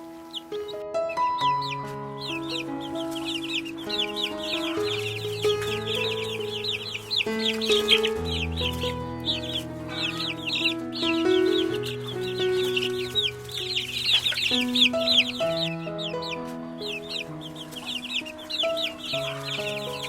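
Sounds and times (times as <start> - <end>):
baby chickens peeping: 0.0 - 20.0
background music of held notes: 0.0 - 20.0.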